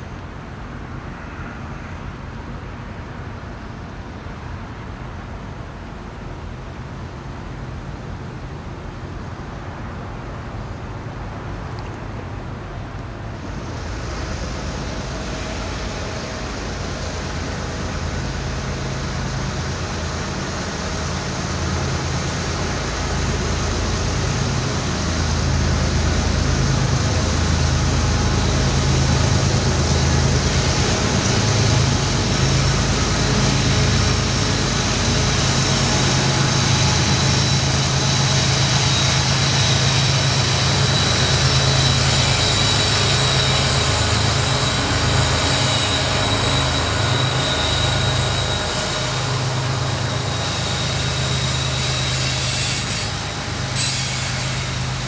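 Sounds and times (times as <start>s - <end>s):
diesel locomotive engine drone: 0.0s - 55.0s
train wheel and rail noise: 0.0s - 55.0s.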